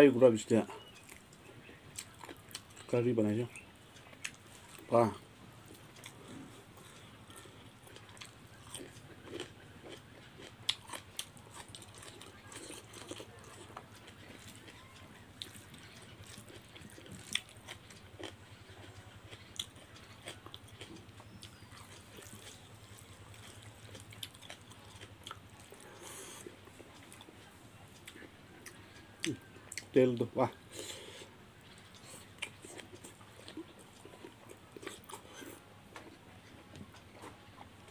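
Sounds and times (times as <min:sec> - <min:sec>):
faint low hum: 0:00.0 - 0:37.9
person chewing and biting: 0:00.8 - 0:02.9, 0:05.7 - 0:29.9, 0:30.6 - 0:36.2.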